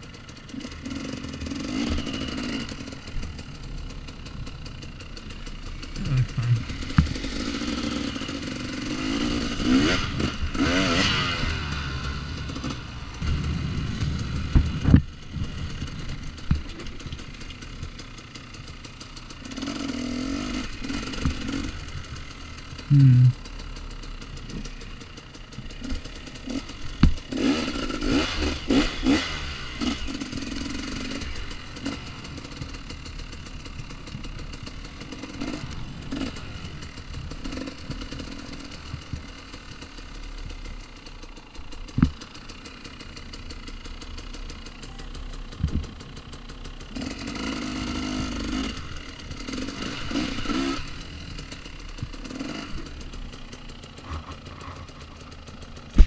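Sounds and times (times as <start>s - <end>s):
dirt bike engine revving: 0.0s - 56.0s
bike knocks and rattles: 0.4s - 22.4s, 24.3s - 42.7s, 44.9s - 46.4s, 51.4s - 56.0s.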